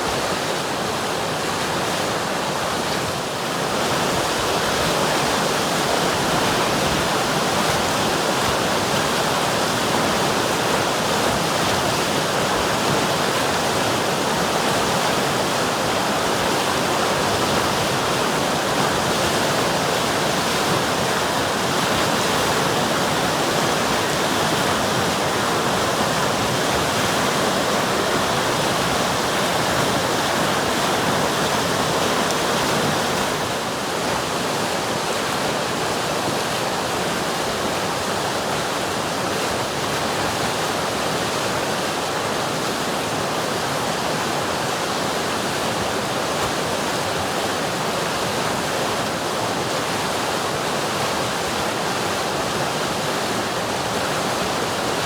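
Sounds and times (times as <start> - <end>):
river water rushing and splashing: 0.0 - 55.0.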